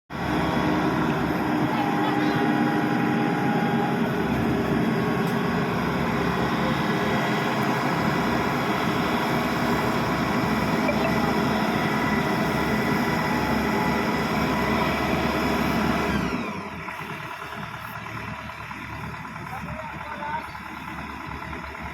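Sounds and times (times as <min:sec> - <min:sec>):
combine harvester running: 0:00.1 - 0:21.9.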